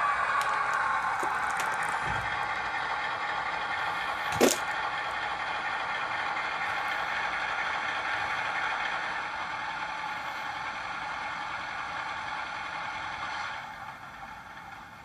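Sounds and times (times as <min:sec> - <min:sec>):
diesel locomotive motor whirr: 0:00.0 - 0:15.0.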